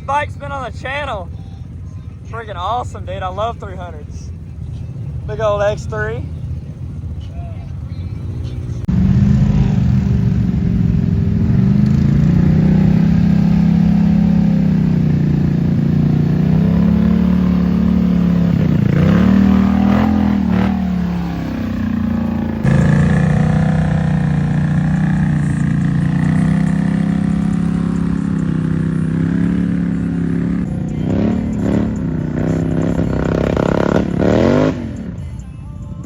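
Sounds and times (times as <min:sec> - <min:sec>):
off-road vehicle engine revving: 0:00.0 - 0:35.5.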